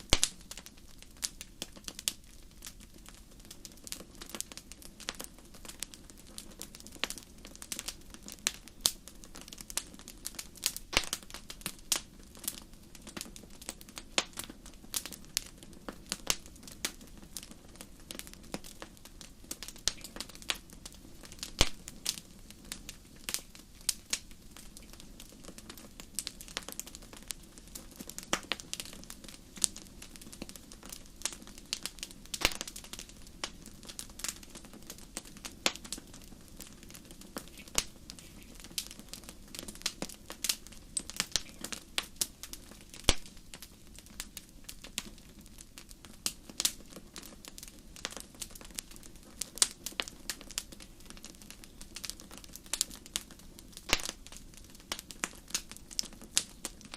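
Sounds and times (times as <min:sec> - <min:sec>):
campfire crackling: 0:00.0 - 0:56.9.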